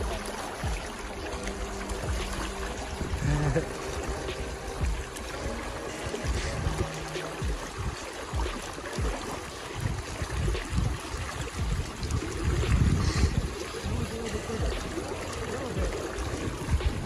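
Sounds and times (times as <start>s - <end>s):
river current rushing and trickling: 0.0s - 17.0s.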